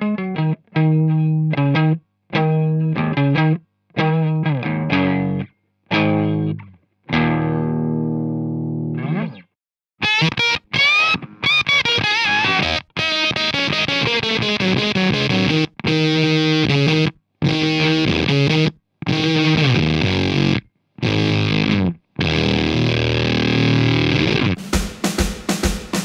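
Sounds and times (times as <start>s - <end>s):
fuzz electric guitar: 0.0s - 9.4s, 10.0s - 24.7s.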